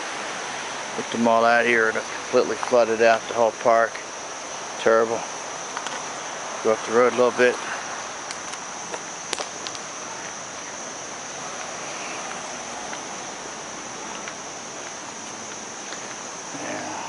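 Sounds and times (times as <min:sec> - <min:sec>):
crickets and insects chirring: 0:00.0 - 0:17.0
steady hiss: 0:00.0 - 0:17.0.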